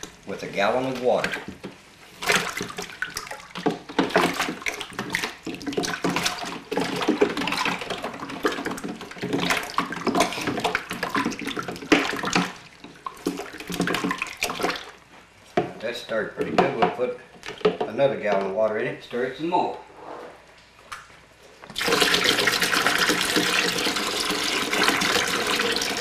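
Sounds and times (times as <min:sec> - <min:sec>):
liquid sloshing while stirred: 0:00.0 - 0:15.8, 0:16.4 - 0:18.0, 0:21.7 - 0:26.0.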